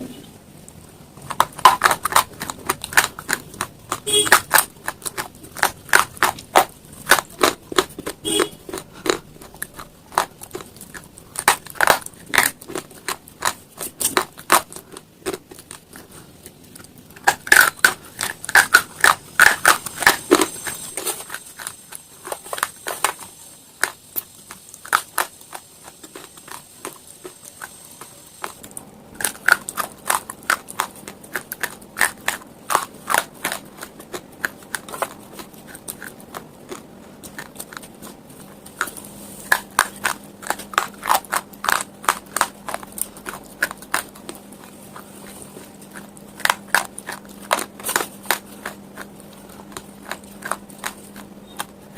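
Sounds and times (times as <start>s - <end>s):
person chewing crunchy stone: 0.8s - 51.9s.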